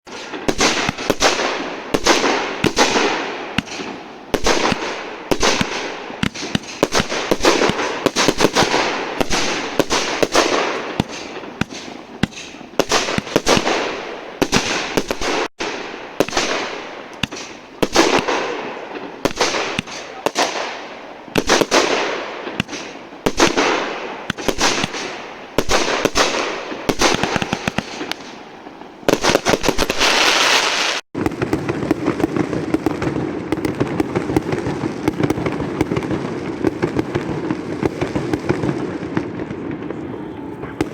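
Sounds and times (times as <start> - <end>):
fireworks crackling: 0.0 - 40.9
fireworks bangs: 0.1 - 40.9.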